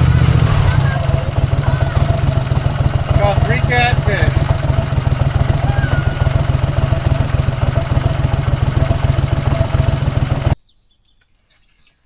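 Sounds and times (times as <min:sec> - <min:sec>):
boat motor running: 0:00.0 - 0:10.6.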